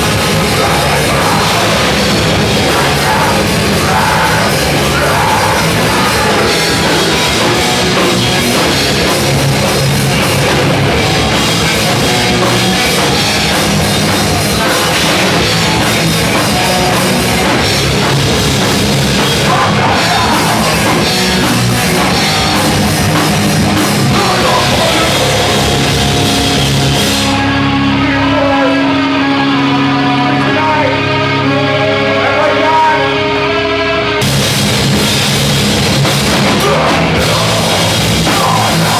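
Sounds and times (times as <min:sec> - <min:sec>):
distorted guitars: 0:00.0 - 0:38.9
drums: 0:00.0 - 0:38.9
heavy rock music: 0:00.0 - 0:38.9.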